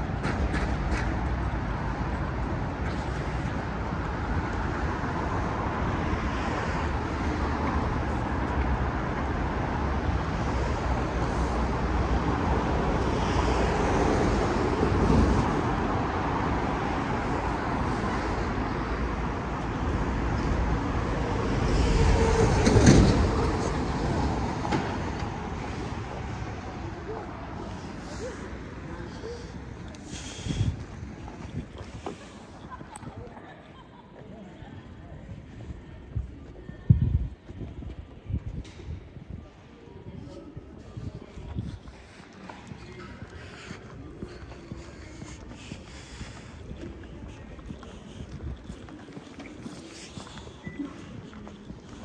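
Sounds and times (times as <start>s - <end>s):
vehicles passing close: 0.0s - 36.5s, 37.8s - 52.0s
city road traffic: 0.0s - 52.0s.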